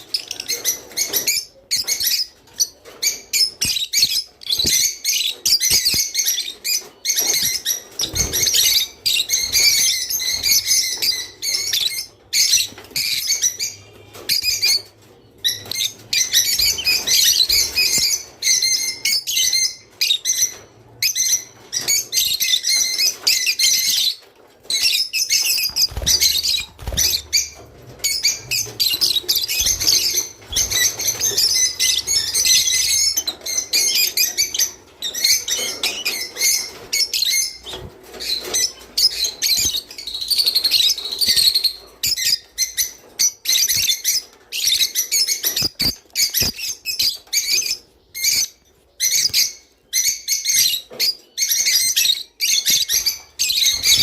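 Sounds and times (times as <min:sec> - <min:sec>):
sparrows chirping and trilling: 0:00.0 - 0:54.0.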